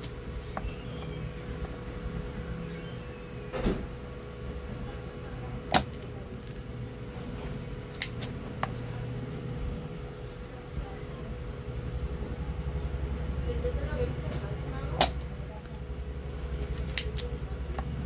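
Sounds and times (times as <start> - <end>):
bench equipment hum: 0.0 - 18.0.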